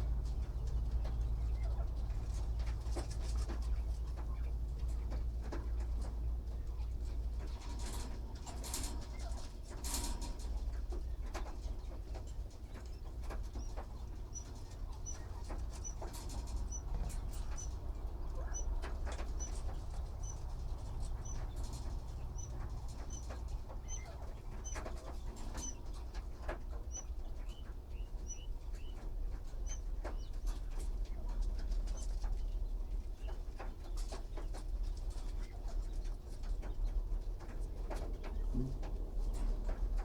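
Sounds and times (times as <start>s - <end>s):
bird chick peeping: 0.0s - 40.0s
low steady rumble: 0.0s - 40.0s.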